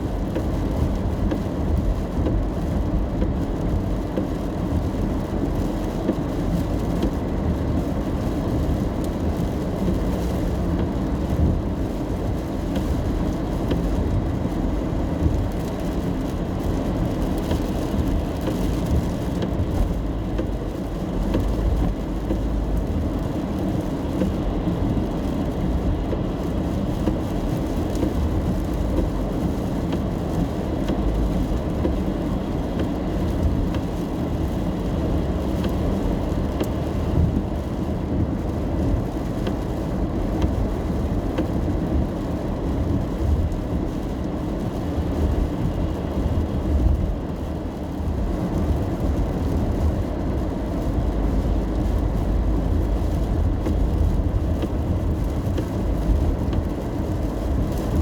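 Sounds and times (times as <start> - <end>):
car driving on wet road: 0.0 - 58.0
rain tapping on car: 0.0 - 58.0.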